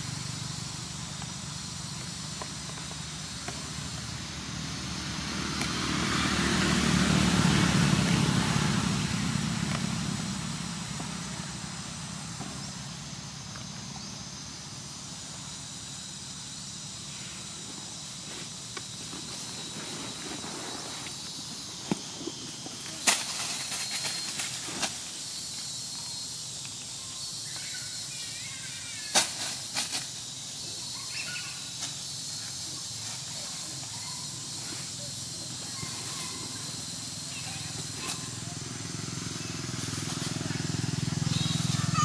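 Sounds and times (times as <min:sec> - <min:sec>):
forest hiss: 0:00.0 - 0:42.0.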